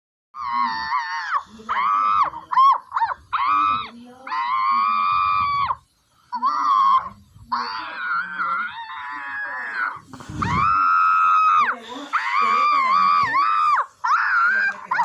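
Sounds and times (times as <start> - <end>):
high-pitched screams: 0.4 - 15.0.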